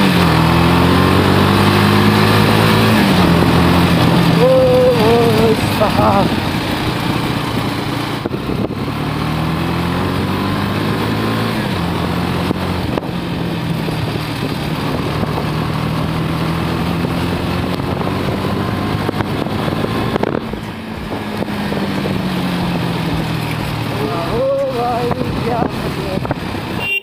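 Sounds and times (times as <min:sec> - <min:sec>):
motorcycle engine revving: 0:00.0 - 0:27.0
wind and road noise: 0:00.0 - 0:27.0.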